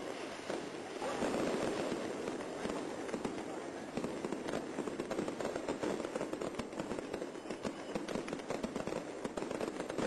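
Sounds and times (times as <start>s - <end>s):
crowd hubbub: 0.0s - 8.4s
firecrackers cracking: 0.0s - 10.0s.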